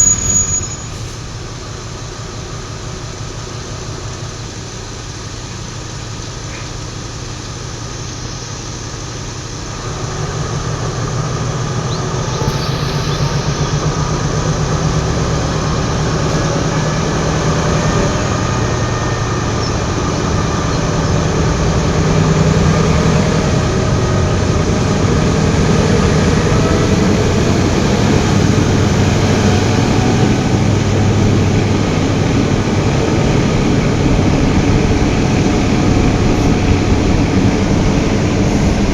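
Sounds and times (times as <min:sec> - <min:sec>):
diesel train engine drone: 0:00.0 - 0:38.9
train wheel noise: 0:00.0 - 0:38.9.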